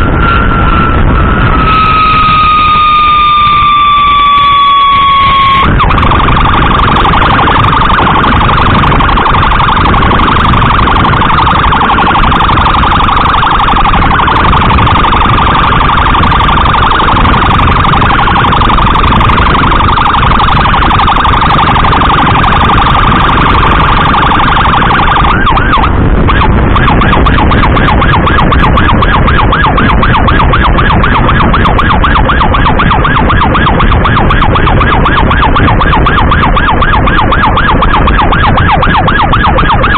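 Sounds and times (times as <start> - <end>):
emergency siren wailing: 0.0 - 39.9
road and wind rumble: 0.0 - 39.9.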